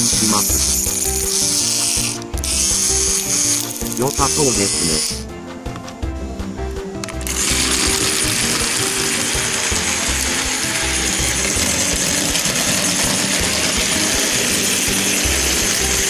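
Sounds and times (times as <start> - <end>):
toy train motor whirring: 0.0 - 5.3, 7.0 - 16.0.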